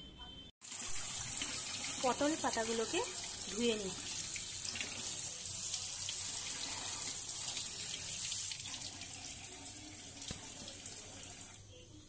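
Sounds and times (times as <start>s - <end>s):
tap water running over leaves: 0.7s - 11.6s.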